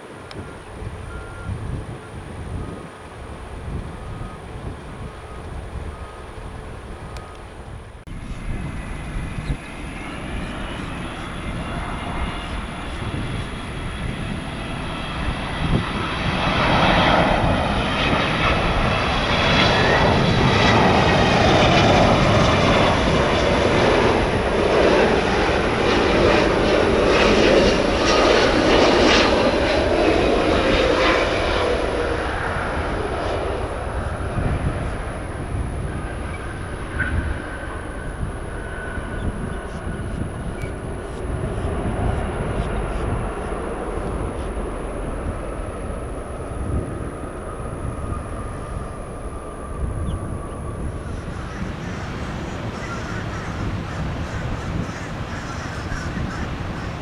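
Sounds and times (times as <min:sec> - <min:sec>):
jet airliner passing: 0:00.0 - 0:57.0.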